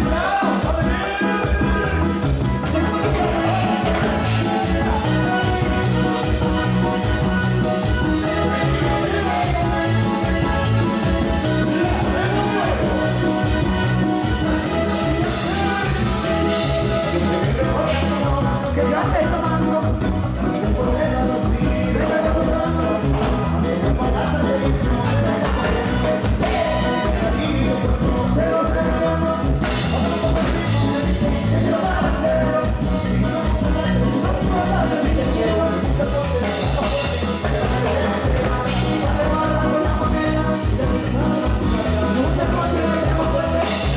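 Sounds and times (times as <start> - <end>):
salsa dance music: 0.0 - 43.9.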